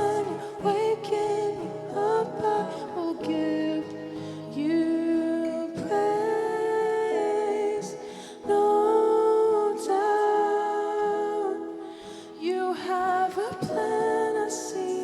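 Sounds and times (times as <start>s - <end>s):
acoustic guitar: 0.0s - 15.0s
keyboard: 0.0s - 15.0s
women singing held notes: 0.0s - 15.0s.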